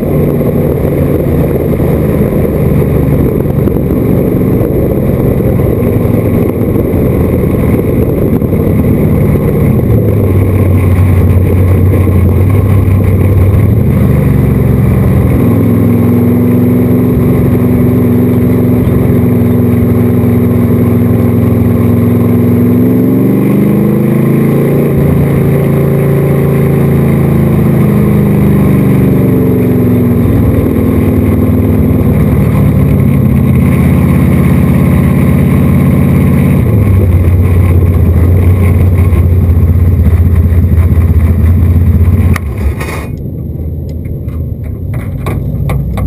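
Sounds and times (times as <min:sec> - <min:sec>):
race car engine: 0:00.0 - 0:46.0.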